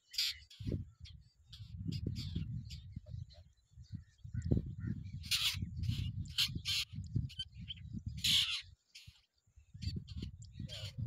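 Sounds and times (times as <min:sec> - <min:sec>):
bird harsh calls: 0:00.0 - 0:11.0.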